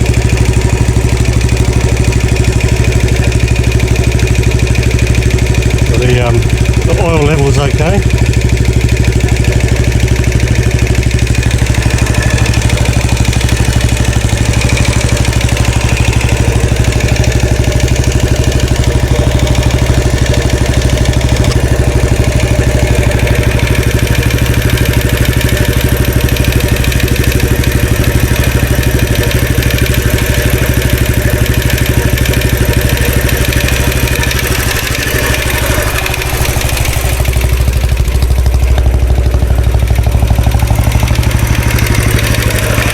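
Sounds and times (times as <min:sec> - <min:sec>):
motorcycle engine idling: 0:00.0 - 0:42.9
oscillating rattling noise: 0:00.0 - 0:42.9.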